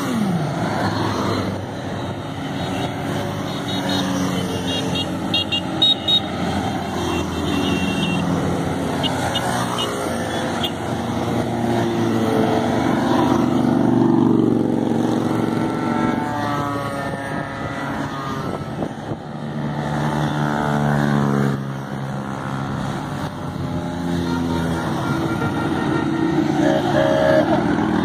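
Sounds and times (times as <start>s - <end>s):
motorcycles passing by: 0.0s - 28.0s.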